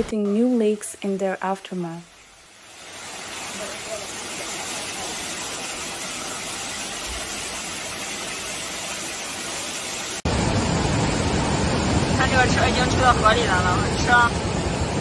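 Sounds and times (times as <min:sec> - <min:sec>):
floodwater rushing: 0:02.1 - 0:15.0.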